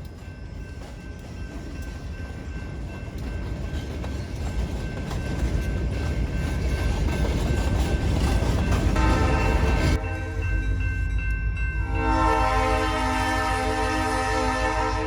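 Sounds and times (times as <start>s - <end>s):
diesel locomotive engine rumble: 0.0s - 15.0s
train wheel noise: 0.0s - 15.0s.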